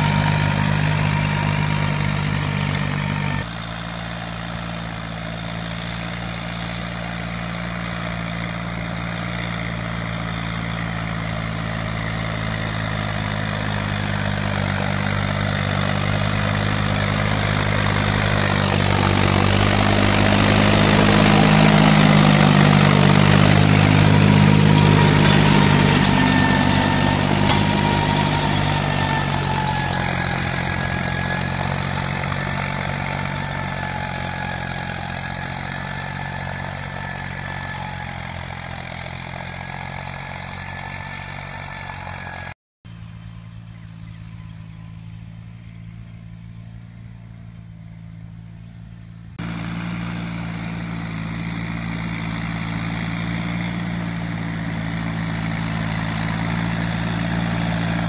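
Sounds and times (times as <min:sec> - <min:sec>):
rotary tiller churning soil: 0:00.0 - 0:42.5, 0:49.4 - 0:58.0
diesel tractor engine running: 0:00.0 - 0:58.0.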